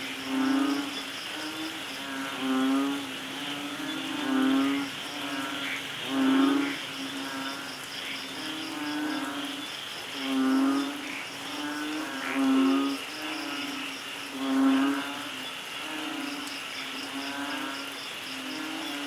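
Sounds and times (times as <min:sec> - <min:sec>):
frog croaking: 0:00.0 - 0:19.0
insect chirping: 0:00.0 - 0:19.0
rain hiss: 0:00.0 - 0:19.0.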